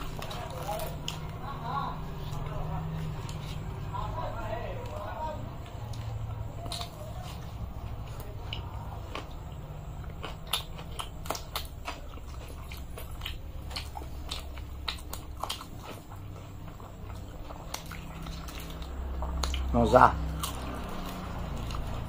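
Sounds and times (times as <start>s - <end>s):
people chewing: 0.0s - 22.0s
steady low hum: 0.0s - 22.0s.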